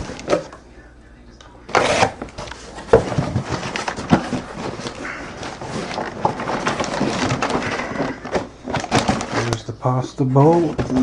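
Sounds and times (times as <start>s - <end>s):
cardboard packaging rustling: 1.7s - 11.0s.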